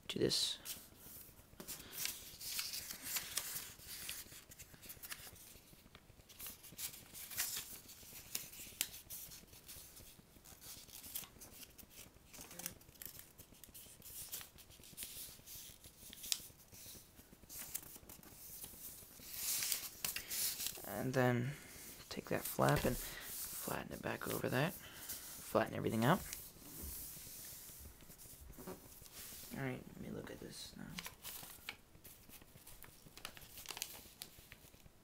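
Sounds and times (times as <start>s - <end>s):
paper rustling and crackling: 0.6s - 20.8s, 21.8s - 29.5s, 30.9s - 34.9s.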